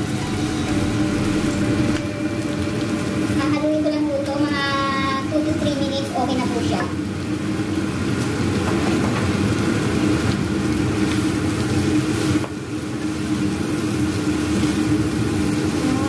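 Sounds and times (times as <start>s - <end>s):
food sizzling in a frying pan: 0.0s - 16.0s
steady mechanical hum: 0.0s - 16.0s.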